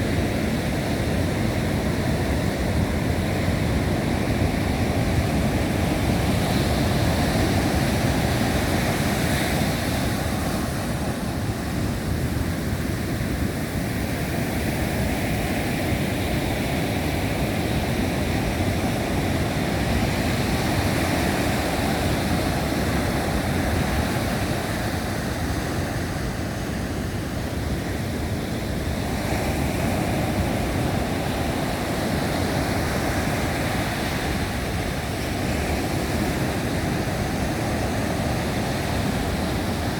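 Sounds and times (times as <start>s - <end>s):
surf breaking and washing in: 0.0s - 39.9s.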